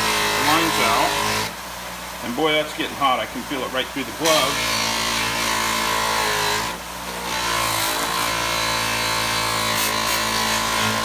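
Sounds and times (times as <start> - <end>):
bench buffer motor hum: 0.0 - 11.0.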